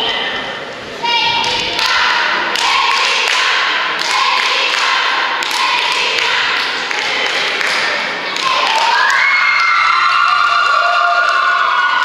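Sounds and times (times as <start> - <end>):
audience hubbub in echoing hall: 0.0 - 12.0.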